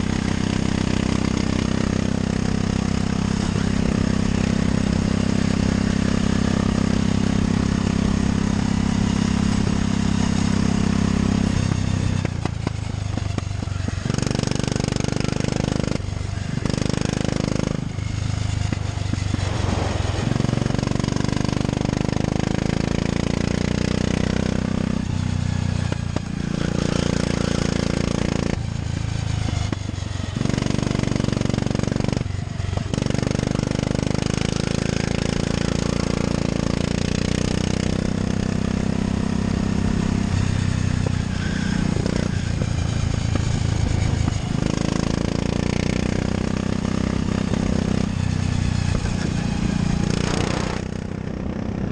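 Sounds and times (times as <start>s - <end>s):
go-kart engine at full throttle: 0.0s - 51.9s.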